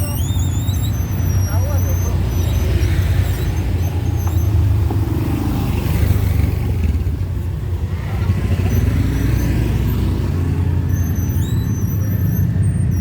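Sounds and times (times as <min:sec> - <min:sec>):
cars and motorcycles passing: 0:00.0 - 0:13.0.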